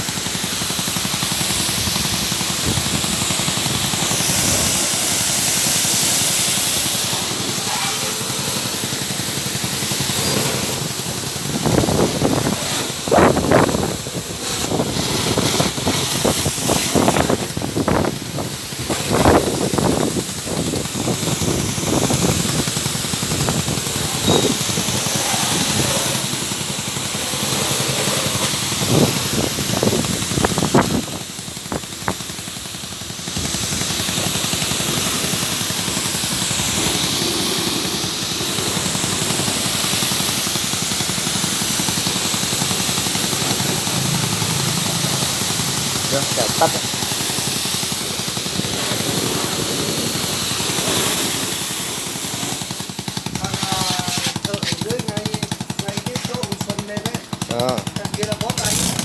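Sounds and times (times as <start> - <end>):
motorbike engine revving: 0.0 - 59.0
water spray hissing: 0.0 - 59.0.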